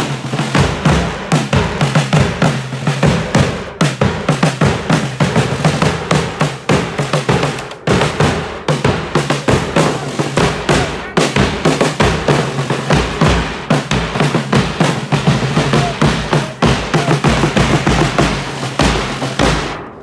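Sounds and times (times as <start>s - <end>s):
snare drums playing fast: 0.0s - 20.0s.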